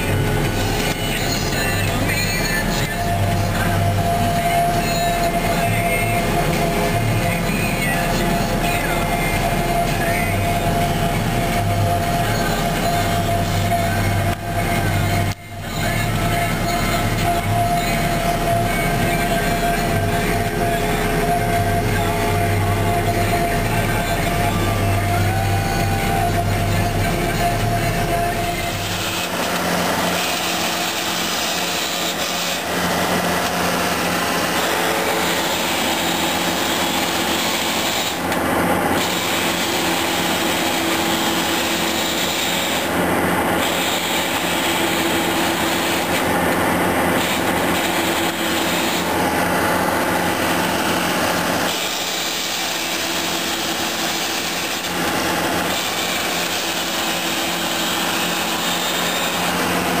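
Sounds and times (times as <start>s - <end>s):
forage harvester whirring clatter: 0.0s - 60.0s
tractor engine running: 0.0s - 60.0s.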